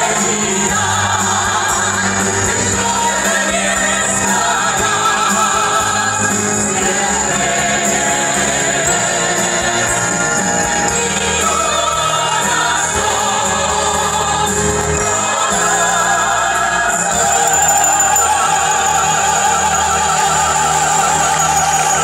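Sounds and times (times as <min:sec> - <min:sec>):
operatic choral singing: 0:00.0 - 0:22.0.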